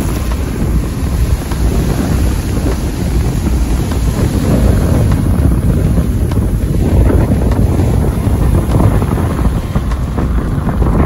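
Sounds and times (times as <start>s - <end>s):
surf breaking on sand: 0.0s - 11.0s
wind buffeting microphone: 0.0s - 11.0s.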